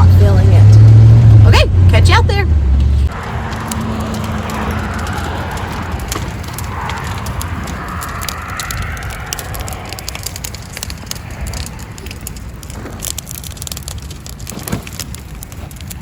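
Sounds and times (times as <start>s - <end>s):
brush fire crackling and popping: 2.8s - 16.0s.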